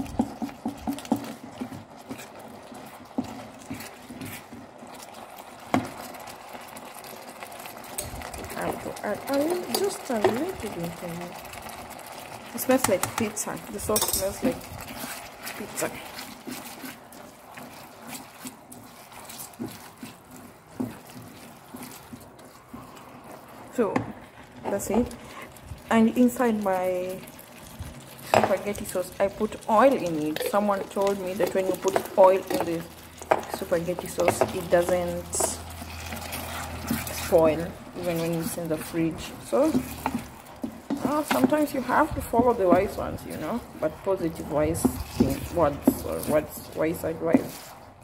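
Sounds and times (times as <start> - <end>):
spatula stirring pasta in pan: 0.0 - 48.0.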